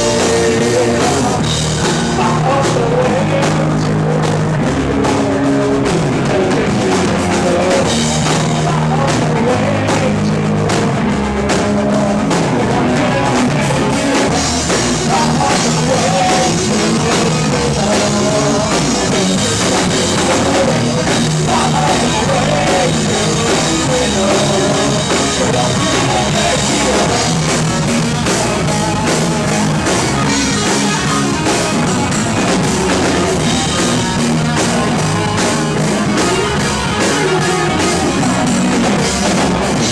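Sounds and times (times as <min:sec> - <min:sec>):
drum kit beat: 0:00.0 - 0:39.9
electric guitars: 0:00.0 - 0:39.9
rock band playing live: 0:00.0 - 0:39.9.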